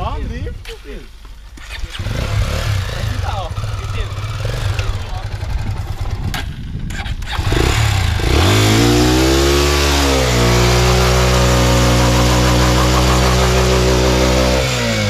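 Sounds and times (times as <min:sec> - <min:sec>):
motorcycle engine revving: 0:01.6 - 0:15.0.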